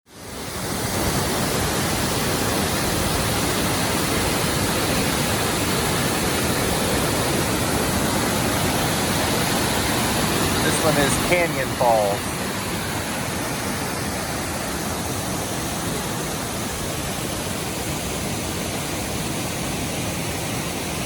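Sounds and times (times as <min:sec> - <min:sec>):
waterfall roar: 0:00.1 - 0:21.0.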